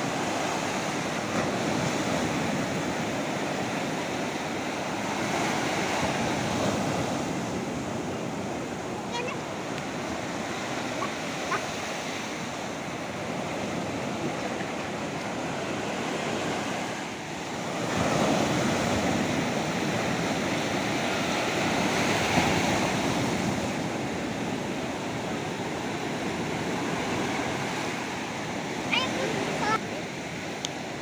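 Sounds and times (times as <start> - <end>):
sea waves washing onto beach: 0.0 - 31.0.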